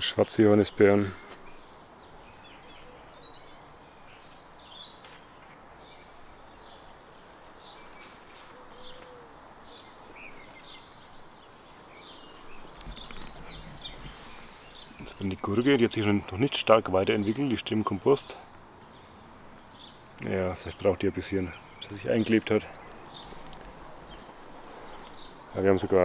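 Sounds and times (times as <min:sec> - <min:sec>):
outdoor background hiss: 0:00.0 - 0:26.0
small birds chirping: 0:00.0 - 0:26.0.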